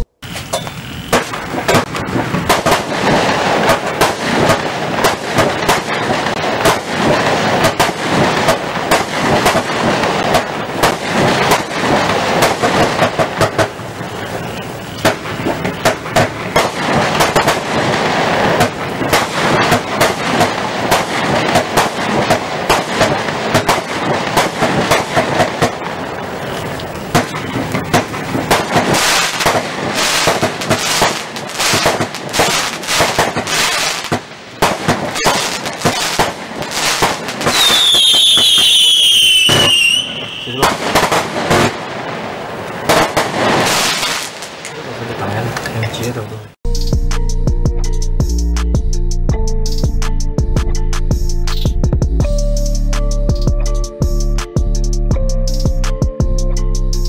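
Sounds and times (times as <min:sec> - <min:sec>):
firework cake firing: 0:00.0 - 0:45.8.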